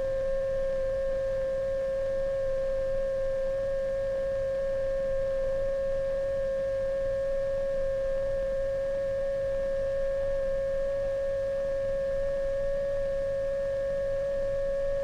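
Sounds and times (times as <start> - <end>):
electronic sine-wave tone: 0.0 - 15.0.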